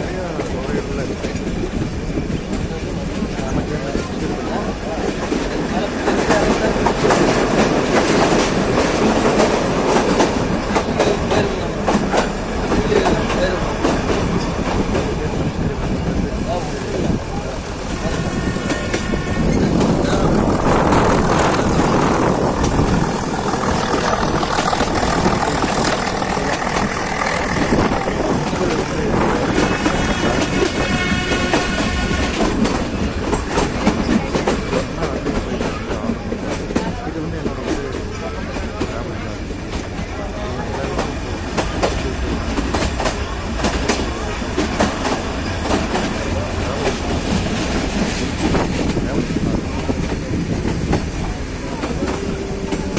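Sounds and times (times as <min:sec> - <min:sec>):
train rumble and rattle: 0:00.0 - 0:52.9.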